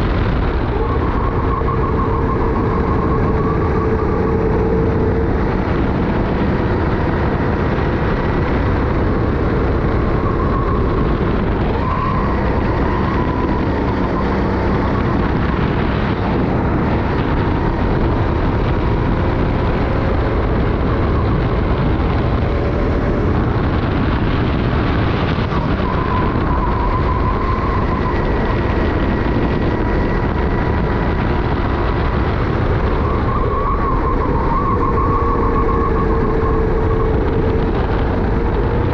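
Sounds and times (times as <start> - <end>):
go-kart engine at high revs: 0.0 - 38.9
wind noise: 0.0 - 38.9.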